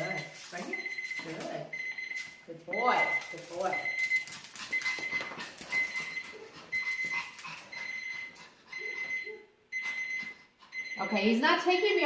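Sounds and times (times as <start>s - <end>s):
kitchen timer alarm beeping: 0.0s - 11.8s.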